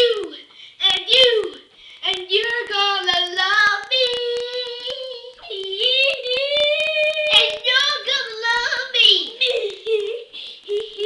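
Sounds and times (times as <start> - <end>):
child singing: 0.0 - 9.9.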